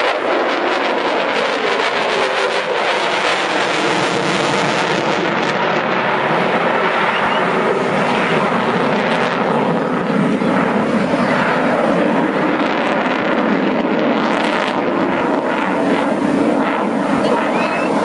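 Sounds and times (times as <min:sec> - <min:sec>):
jet flying past: 0:00.0 - 0:18.0.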